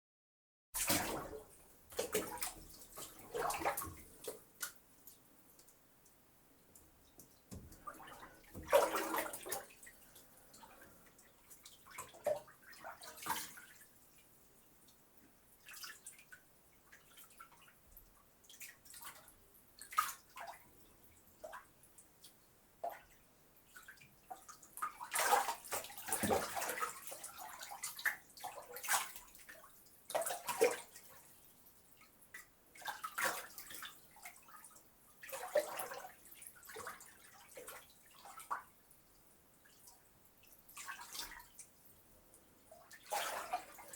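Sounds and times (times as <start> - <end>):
water splashing in a bathtub: 0.8 - 43.9.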